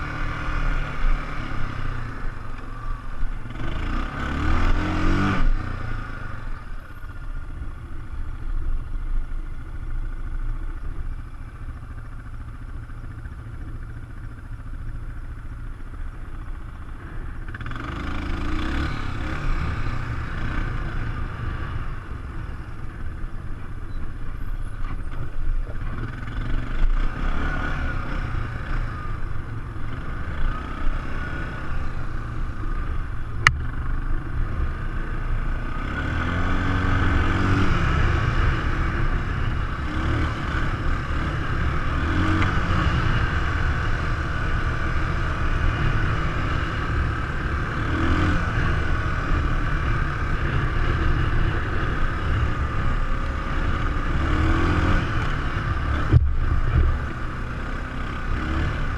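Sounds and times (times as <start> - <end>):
atv engine rumbling: 0.0 - 58.9.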